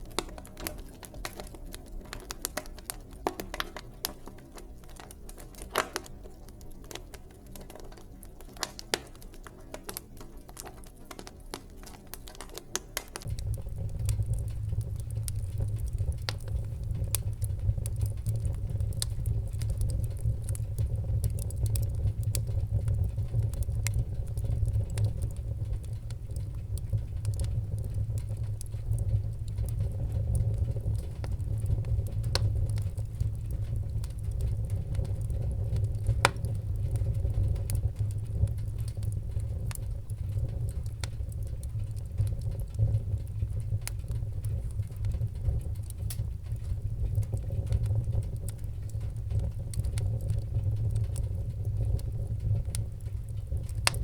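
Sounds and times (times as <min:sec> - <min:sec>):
low roar of flames: 0:00.0 - 0:54.0
wood fire crackling and popping: 0:00.0 - 0:54.0.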